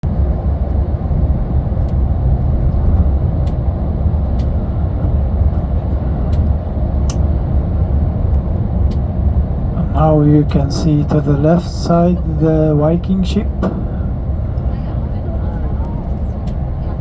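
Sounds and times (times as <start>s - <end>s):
vehicle rumble from inside cabin: 0.0s - 17.0s.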